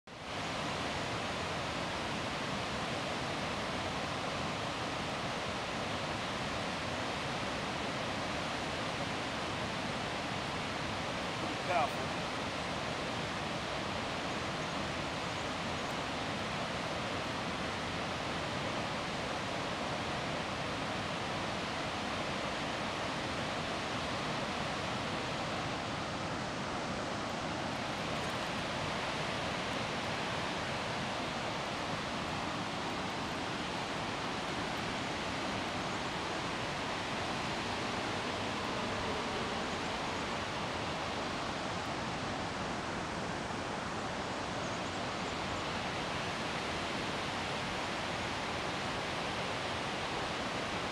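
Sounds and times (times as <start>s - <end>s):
water rushing over rocks: 0.1s - 50.9s.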